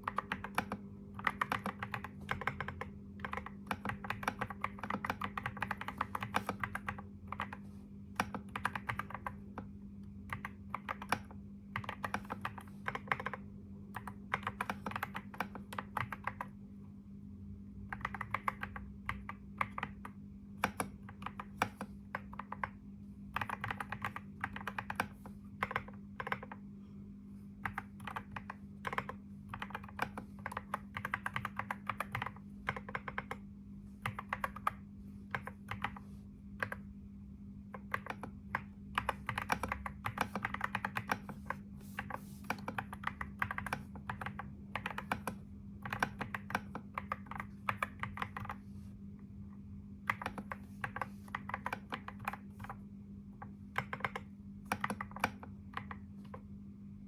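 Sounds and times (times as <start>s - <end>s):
computer keyboard typing: 0.0s - 16.6s, 17.8s - 26.7s, 27.6s - 37.0s, 37.6s - 48.7s, 50.0s - 56.5s
steady low hum: 0.0s - 57.0s.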